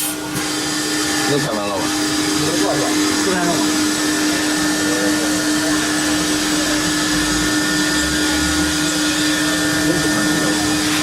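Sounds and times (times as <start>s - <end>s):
woodworking cnc machinery drone: 0.0s - 11.0s.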